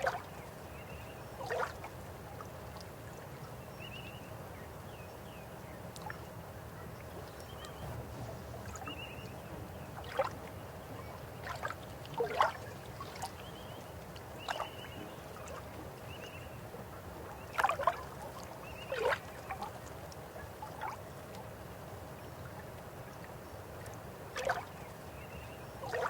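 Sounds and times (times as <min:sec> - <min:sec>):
water splashes and gurgles: 0:00.0 - 0:04.0, 0:07.0 - 0:26.0.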